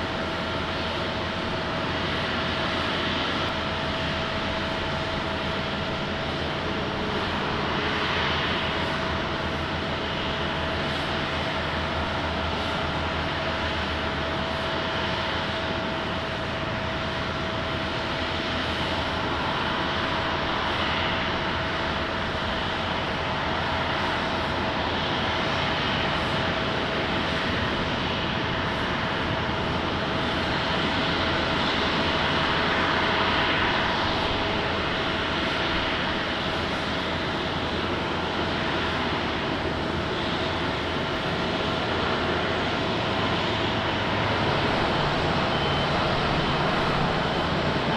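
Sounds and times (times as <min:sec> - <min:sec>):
jet engines running: 0:00.0 - 0:47.9.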